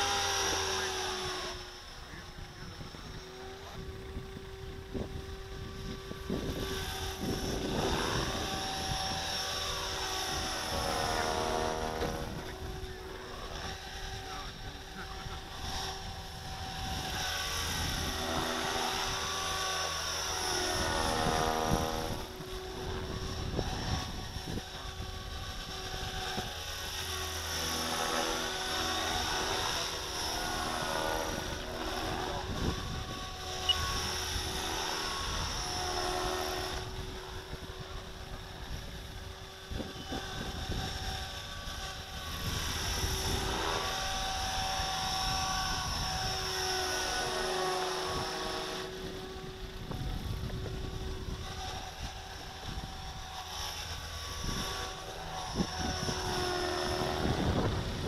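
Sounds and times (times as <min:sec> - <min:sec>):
model helicopter rotor whine: 0:00.0 - 0:58.0.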